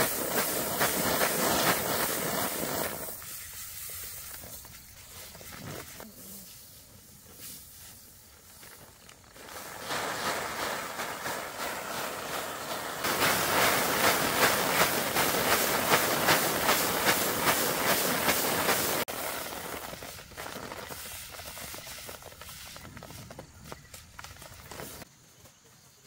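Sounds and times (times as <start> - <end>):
straw rustling and swishing: 0.1 - 25.0.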